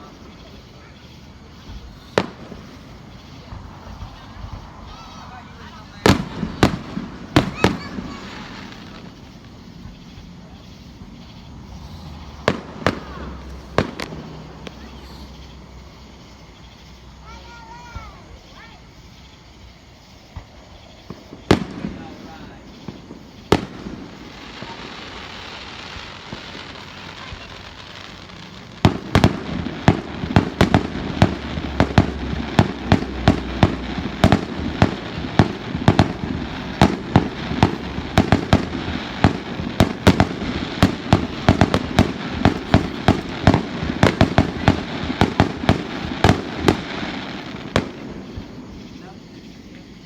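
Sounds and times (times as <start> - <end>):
fireworks banging: 0.0 - 50.0
fireworks hissing: 0.0 - 50.0.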